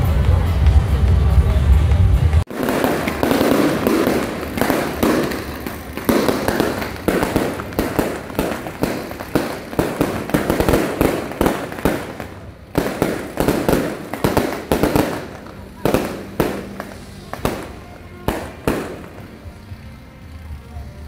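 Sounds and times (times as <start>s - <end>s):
firecrackers cracking: 2.4s - 21.0s.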